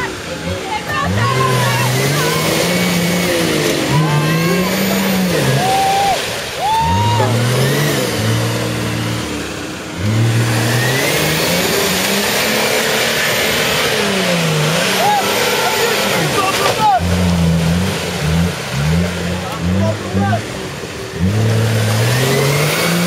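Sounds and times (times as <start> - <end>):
engine revving hard: 0.0 - 23.0
tyres churning through mud: 0.0 - 23.0.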